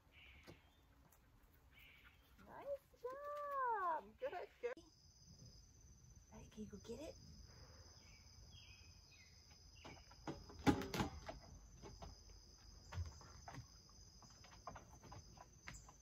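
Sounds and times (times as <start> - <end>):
insects droning: 1.8 - 16.0.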